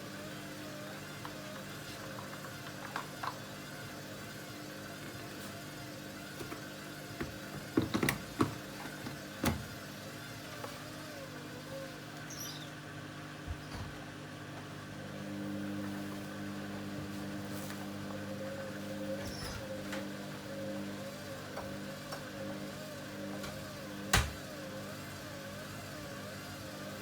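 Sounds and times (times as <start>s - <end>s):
motor or pump hum: 0.0s - 27.0s
washing machine humming: 0.0s - 27.0s.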